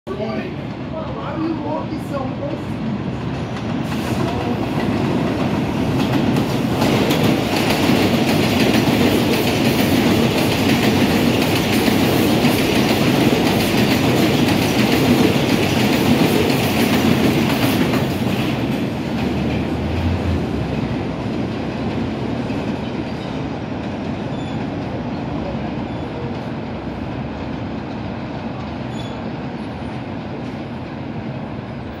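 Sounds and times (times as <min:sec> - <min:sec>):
train wheels rumbling on rails: 0:00.1 - 0:32.0.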